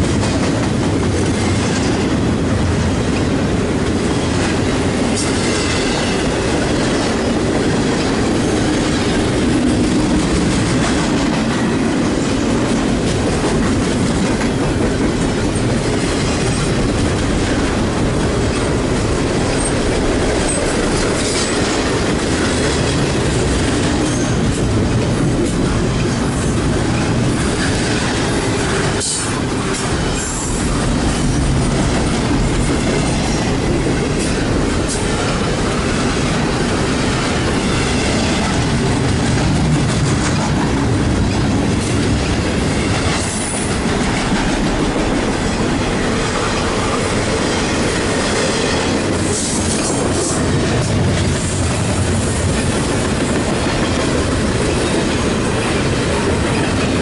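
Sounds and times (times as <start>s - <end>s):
train wheels rumbling over rails: 0.0s - 57.0s.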